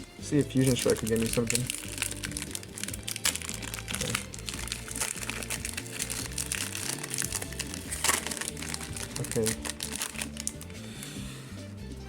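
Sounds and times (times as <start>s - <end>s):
background music: 0.0s - 12.0s
foil wrapper crinkling: 0.4s - 10.8s.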